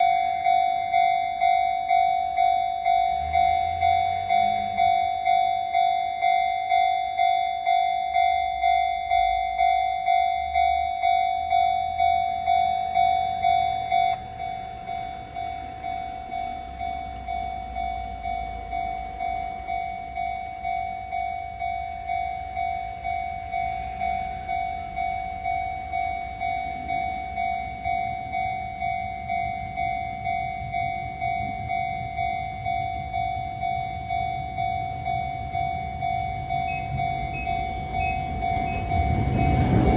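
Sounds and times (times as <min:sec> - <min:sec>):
level crossing bell clanging: 0:00.0 - 0:39.9
train rumble: 0:00.0 - 0:39.9.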